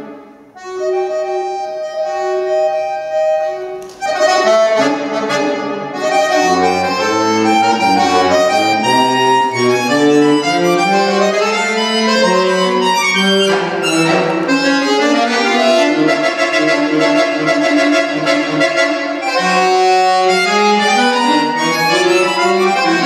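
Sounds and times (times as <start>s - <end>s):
solo accordion playing: 0.0s - 23.0s.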